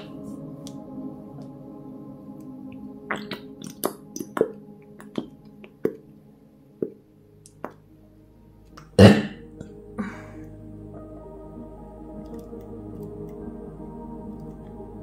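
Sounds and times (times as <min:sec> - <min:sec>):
soft music: 0:00.0 - 0:15.0.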